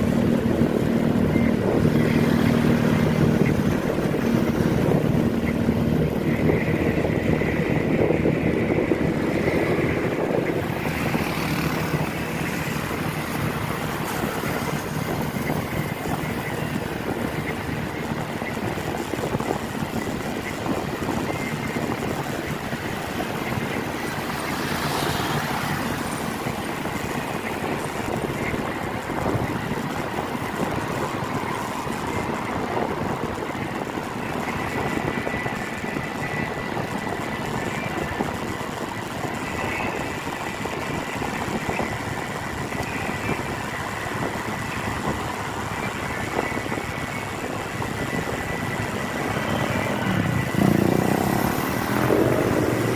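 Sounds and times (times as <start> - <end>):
tyres on wet road: 0.0 - 52.9
vehicle engines: 0.0 - 52.9.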